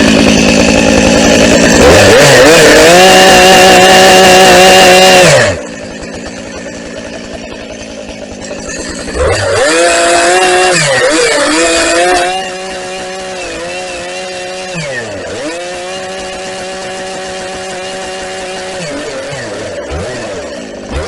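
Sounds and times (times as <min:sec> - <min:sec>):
chainsaw cutting wood: 0:00.0 - 0:21.0
chainsaw revving: 0:00.0 - 0:21.0.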